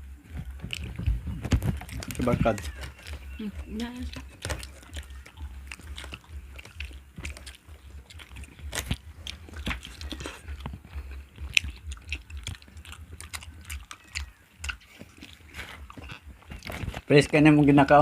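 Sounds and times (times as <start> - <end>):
low hum: 0.0 - 17.1
people chewing with wet smacking: 0.0 - 18.0.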